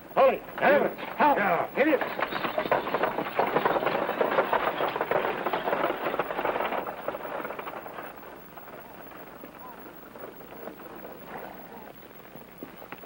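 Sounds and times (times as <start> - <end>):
stagecoach rattling: 0.0 - 11.9
horses galloping on dirt: 0.0 - 13.0.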